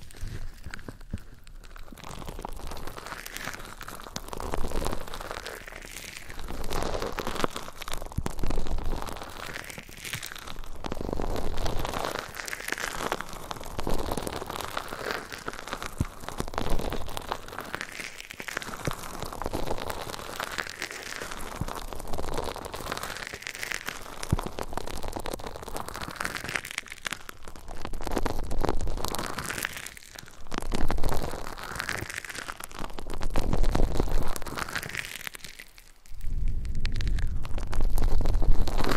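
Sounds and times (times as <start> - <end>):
crackling rubbing on microphone: 0.0 - 38.9.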